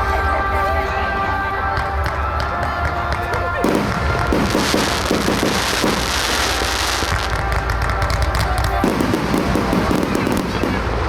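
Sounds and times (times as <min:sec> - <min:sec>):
fireworks crackling: 0:00.0 - 0:11.0
fireworks bursting: 0:00.1 - 0:11.0.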